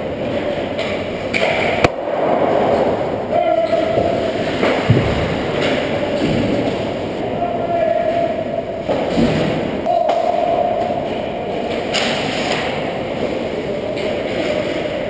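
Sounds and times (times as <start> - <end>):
steady rink hum: 0.0 - 15.0.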